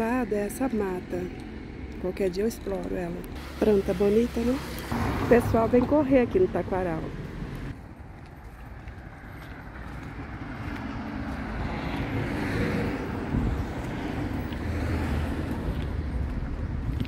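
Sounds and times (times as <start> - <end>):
car passing: 0.0 - 7.8, 9.0 - 17.0
low rumble of traffic: 0.0 - 17.0.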